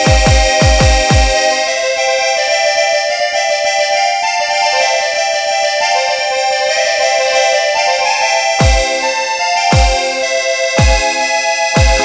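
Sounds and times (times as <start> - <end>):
keyboard melody of held notes: 0.0 - 12.0.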